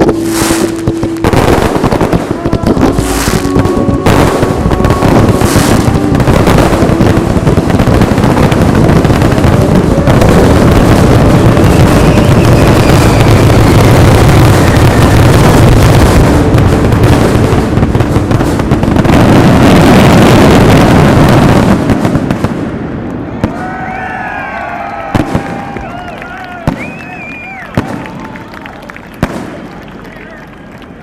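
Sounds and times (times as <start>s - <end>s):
fireworks booming and crackling: 0.0s - 31.0s.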